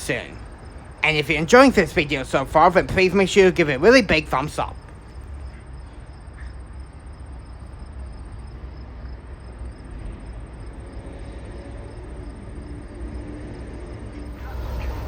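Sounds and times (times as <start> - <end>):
steady low rumble: 0.0 - 15.0
faint insect chirping: 0.1 - 15.0.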